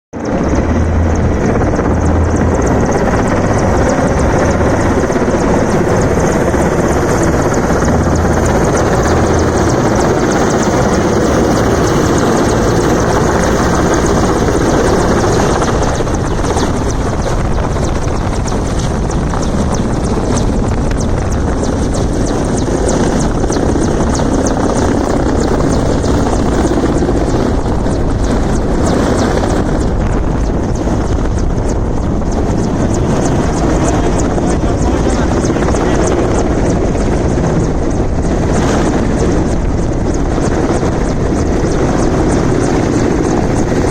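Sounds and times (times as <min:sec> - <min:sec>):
helicopter rotor and engines: 0:00.1 - 0:43.9.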